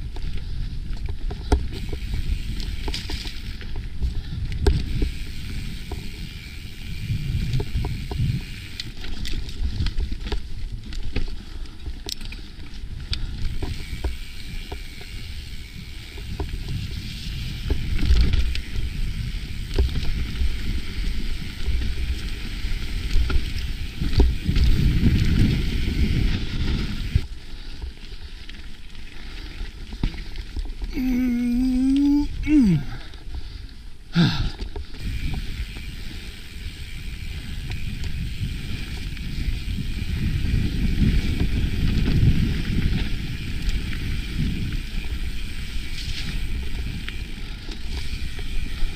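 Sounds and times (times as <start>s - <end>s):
wind buffeting microphone: 0.0s - 11.1s, 11.8s - 27.3s, 34.9s - 48.9s
bike tyre and trail rumble: 0.0s - 48.9s.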